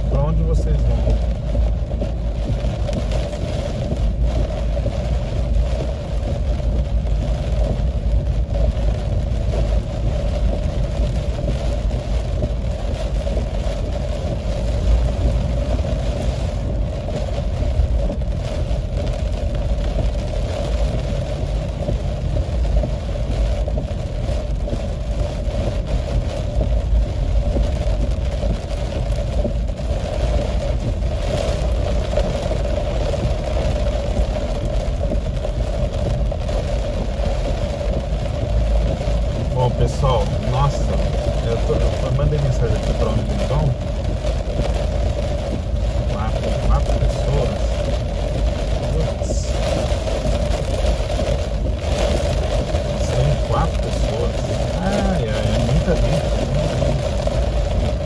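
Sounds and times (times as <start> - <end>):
car engine and tyres on wet road: 0.0 - 58.0
rain hitting windscreen: 0.0 - 58.0.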